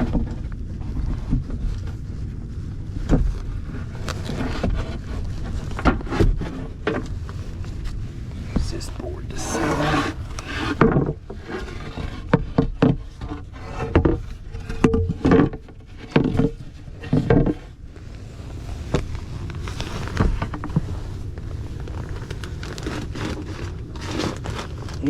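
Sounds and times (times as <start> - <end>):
wooden board knocks and scrapes: 0.0 - 21.1.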